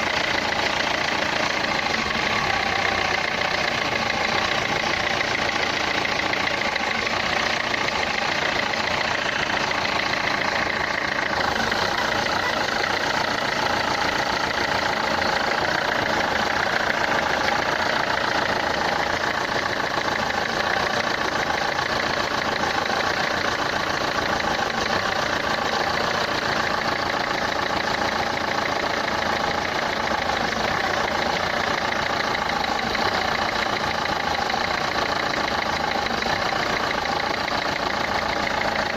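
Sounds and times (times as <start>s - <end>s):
diesel engine idling with clatter: 0.0s - 38.9s.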